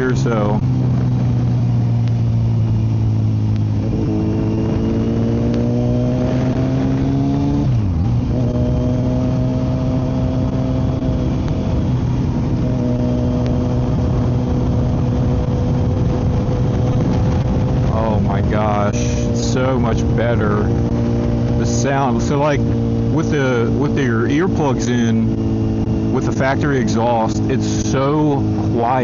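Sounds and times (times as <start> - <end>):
motorcycle engine: 0.0 - 29.0.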